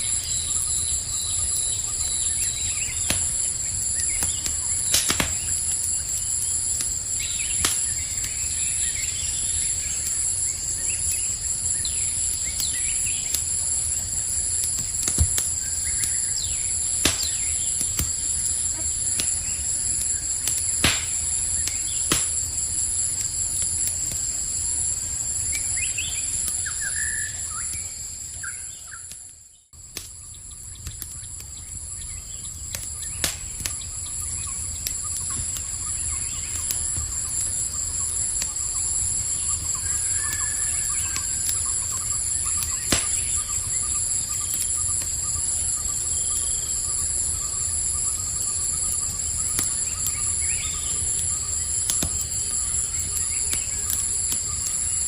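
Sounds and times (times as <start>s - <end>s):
campfire crackling: 0.0s - 55.0s
night insects chirring: 0.0s - 55.0s.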